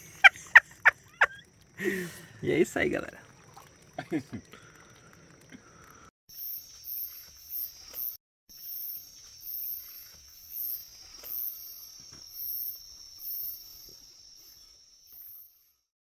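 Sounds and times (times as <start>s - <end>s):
insect chirping: 0.0s - 15.9s
insects trilling: 0.0s - 15.9s.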